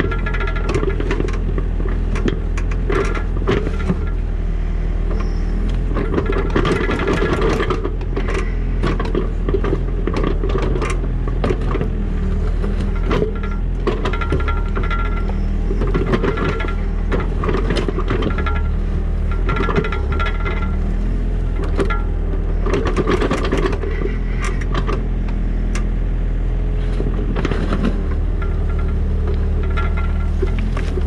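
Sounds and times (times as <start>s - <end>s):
equipment knocks and clanks: 0.0s - 4.3s, 5.8s - 20.9s, 21.5s - 25.9s, 26.8s - 31.0s
diesel engine running: 0.0s - 31.0s.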